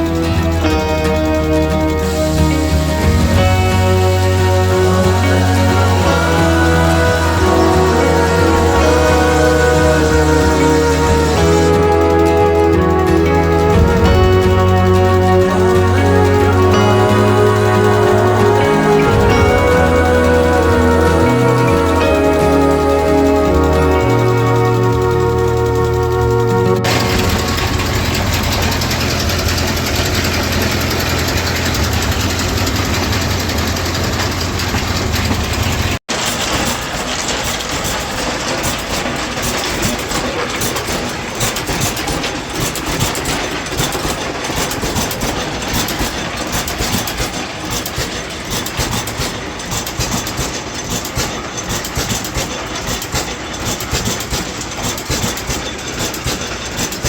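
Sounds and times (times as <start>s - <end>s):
engine humming: 0.0s - 57.0s
sawmill mechanical clatter: 0.0s - 57.0s.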